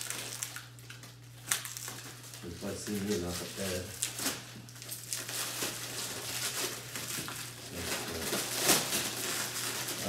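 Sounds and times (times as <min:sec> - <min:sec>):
heavy plastic wrapping crinkling: 0:00.0 - 0:10.0.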